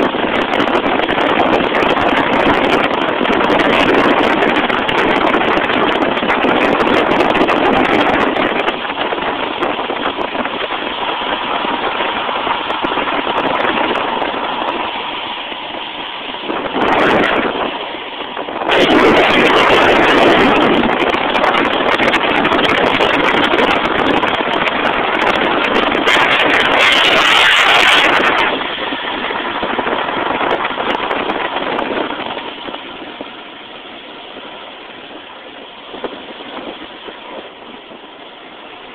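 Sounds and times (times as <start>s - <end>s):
skateboard wheels rolling on asphalt: 0.0s - 38.9s
wind rushing over microphone: 0.0s - 38.9s.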